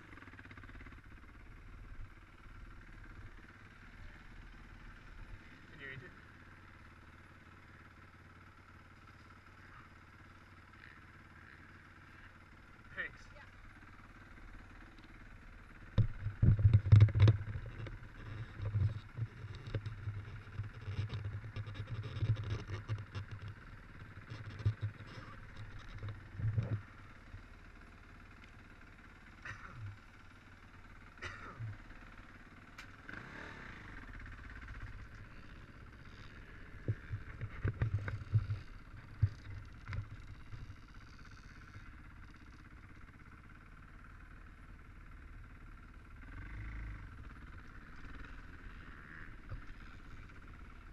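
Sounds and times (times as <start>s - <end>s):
distant dirt bikes: 0.0s - 50.9s.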